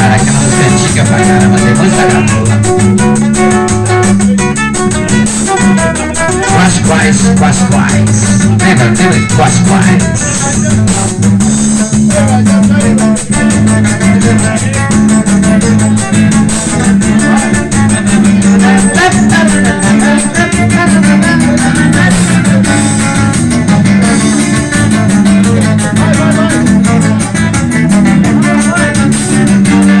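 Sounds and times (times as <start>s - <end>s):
live band with plucked guitar: 0.0s - 30.0s.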